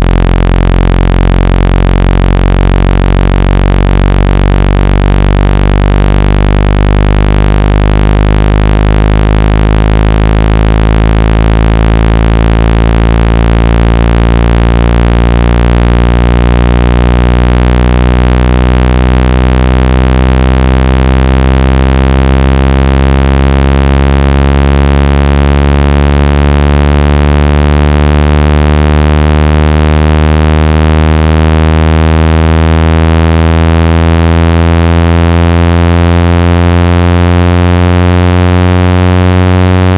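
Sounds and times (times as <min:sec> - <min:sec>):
low buzzing tone rising in pitch: 0:00.0 - 0:39.9.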